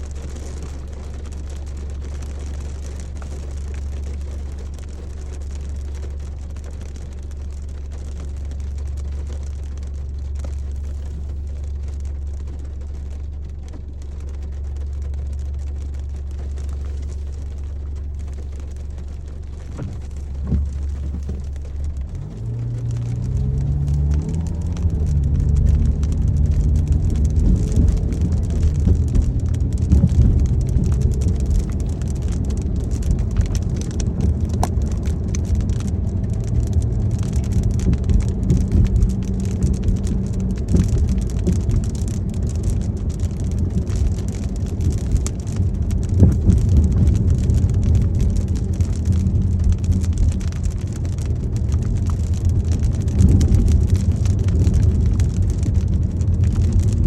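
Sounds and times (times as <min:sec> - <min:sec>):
car road and engine rumble: 0:00.0 - 0:57.0
raindrops pattering on car: 0:00.0 - 0:57.0.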